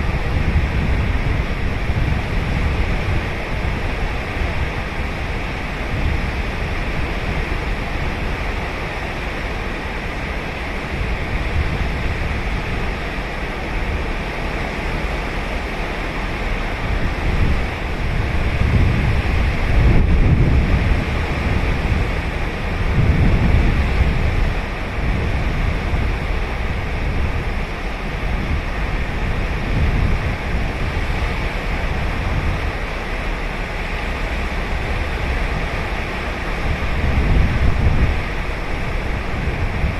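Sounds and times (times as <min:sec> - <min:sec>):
ocean waves on sandy beach: 0:00.0 - 0:39.9
wind on microphone: 0:00.0 - 0:39.9.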